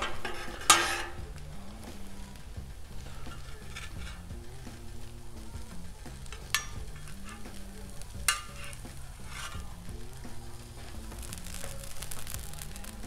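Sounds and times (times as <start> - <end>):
metal spatulas scraping griddle: 0.0 - 12.6
faint food sizzle: 0.0 - 13.0.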